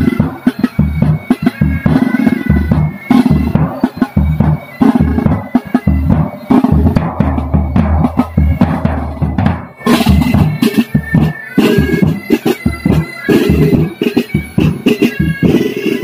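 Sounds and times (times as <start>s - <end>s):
bagpipes playing: 0.0s - 16.0s
bass and tenor drums beating: 0.0s - 16.0s.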